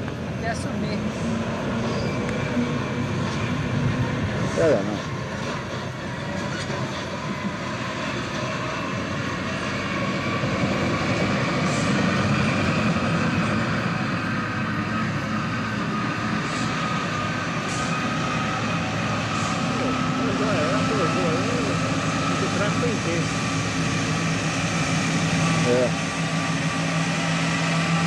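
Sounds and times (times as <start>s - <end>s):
diesel trucks driving past: 0.0s - 28.0s.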